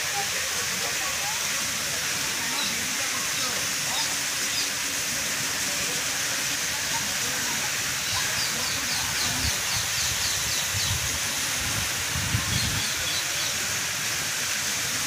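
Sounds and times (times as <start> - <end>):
fountain water hissing: 0.0 - 15.0.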